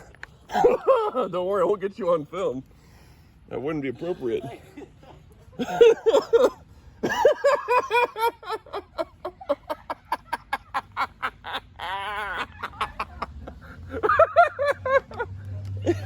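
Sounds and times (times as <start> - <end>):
man laughing: 0.5 - 1.6, 4.0 - 16.0.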